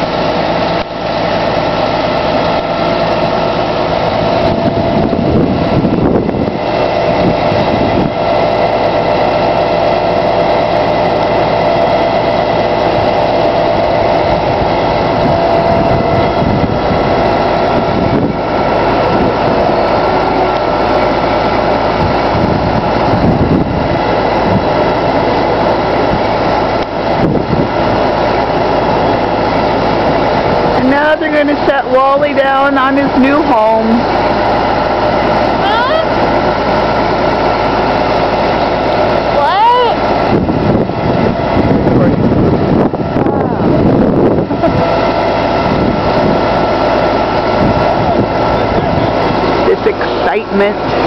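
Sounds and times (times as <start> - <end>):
diesel engine running: 0.0 - 51.0
steady whine: 0.0 - 51.0.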